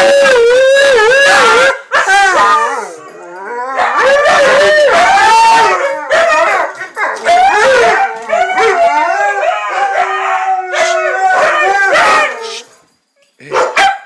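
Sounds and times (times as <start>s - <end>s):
dogs howling: 0.0s - 12.7s.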